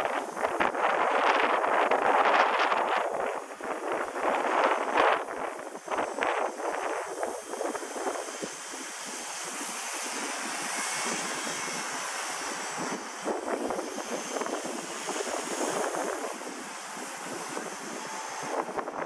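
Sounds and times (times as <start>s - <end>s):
toy helicopter rotor whine: 0.0s - 19.0s
wind buffeting microphone: 0.0s - 19.0s.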